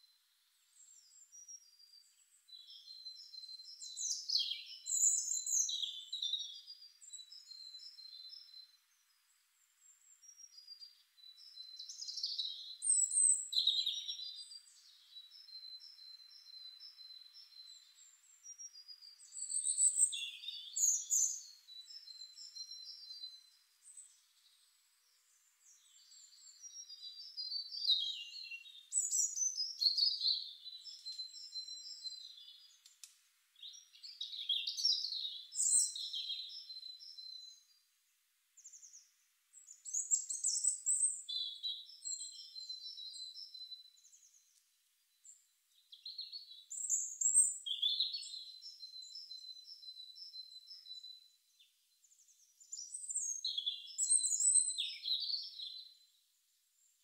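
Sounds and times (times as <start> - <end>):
small bird singing: 0.0 - 57.0.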